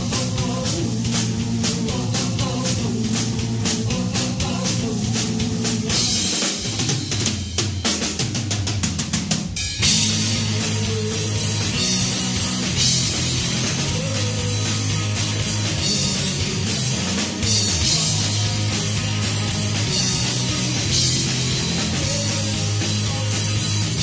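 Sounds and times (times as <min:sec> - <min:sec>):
drum fill: 0:00.0 - 0:24.0
live rock band playing: 0:00.0 - 0:24.0.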